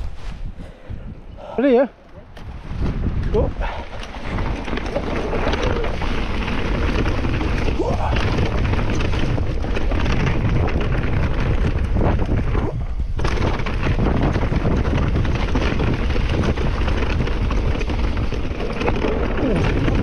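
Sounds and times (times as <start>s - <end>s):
wind buffeting microphone: 0.0s - 20.0s
bike tyres and frame rattling: 2.2s - 20.0s.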